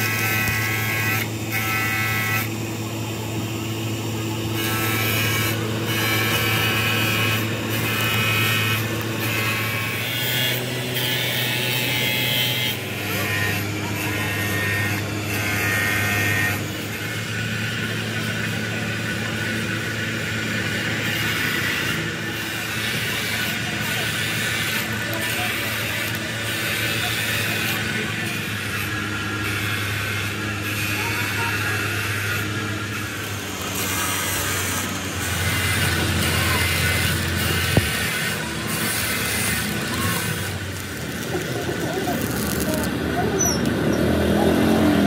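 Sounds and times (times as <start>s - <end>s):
grinding whine on metal: 0.0s - 45.0s
power tool motor hum: 0.0s - 45.0s.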